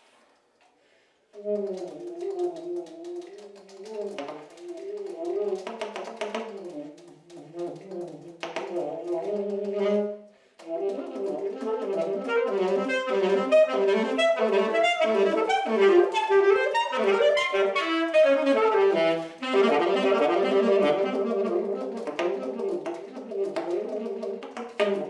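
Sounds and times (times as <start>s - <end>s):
saxophone solo: 1.4s - 25.0s.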